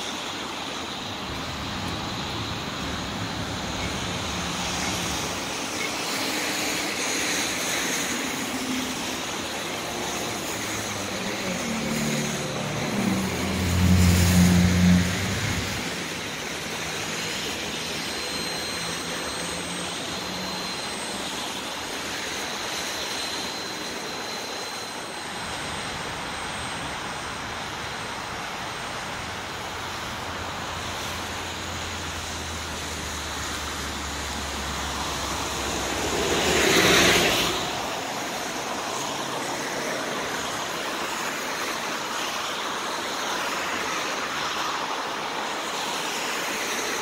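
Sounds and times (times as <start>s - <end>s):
train wheels rushing on rails: 0.0s - 47.0s.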